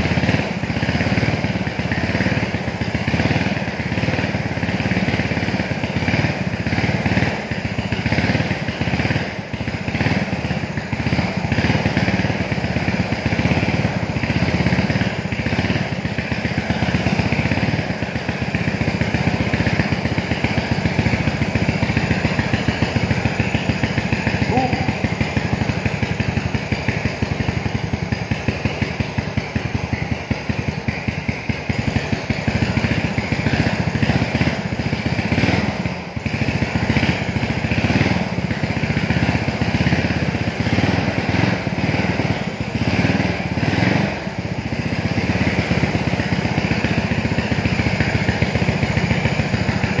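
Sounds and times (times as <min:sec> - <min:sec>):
motor scooter engine revving: 0:00.0 - 0:50.0.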